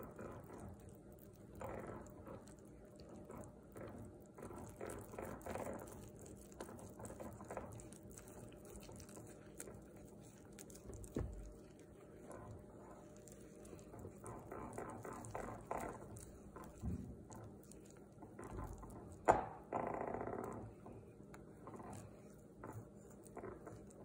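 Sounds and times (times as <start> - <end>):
whisk scraping glass bowl: 0.0 - 19.4.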